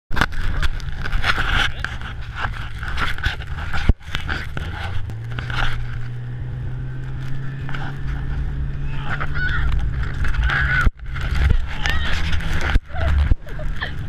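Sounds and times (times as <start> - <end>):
sleds knocking over bumps: 0.1 - 14.0
sled runners scraping on snow: 0.2 - 14.0.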